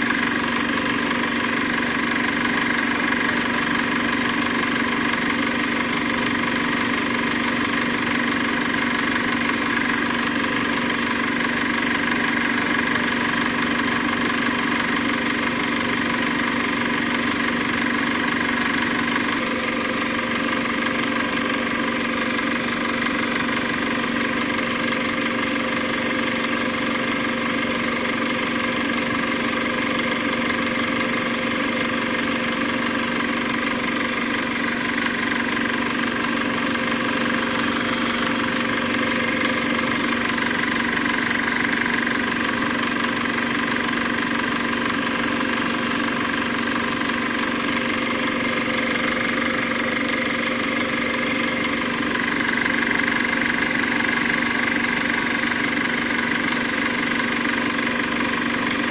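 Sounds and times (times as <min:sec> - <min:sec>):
small motor running with hum: 0:00.0 - 0:58.9.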